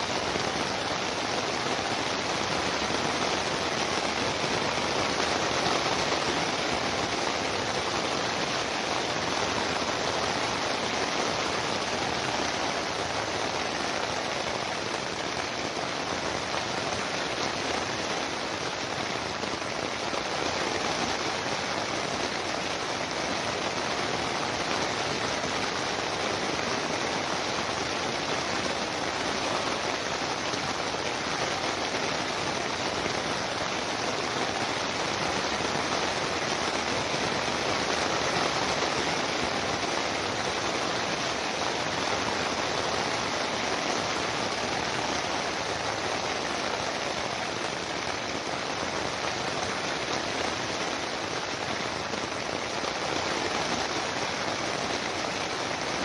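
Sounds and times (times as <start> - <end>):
steady rain on surface: 0.0 - 56.0.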